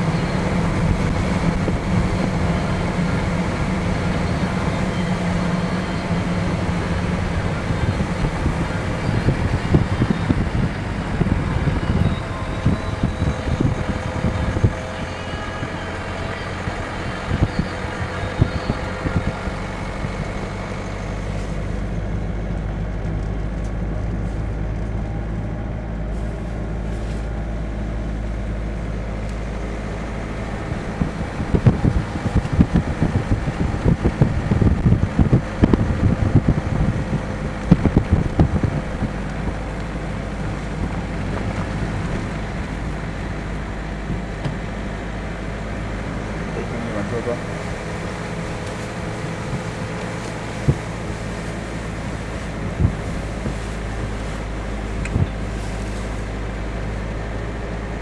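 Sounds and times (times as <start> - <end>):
road rumble: 0.0 - 58.0
van engine hum: 0.0 - 58.0
wind noise on microphone: 0.0 - 58.0.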